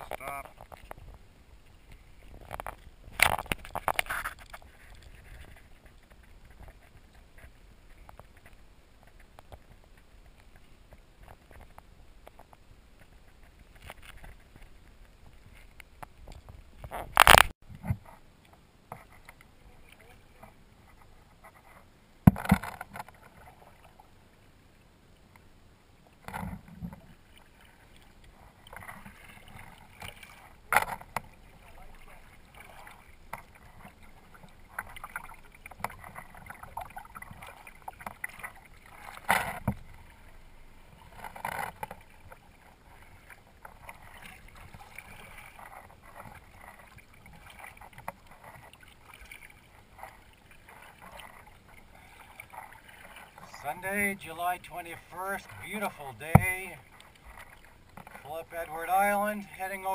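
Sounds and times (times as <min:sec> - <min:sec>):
paddle swishing through water: 0:00.0 - 0:59.9.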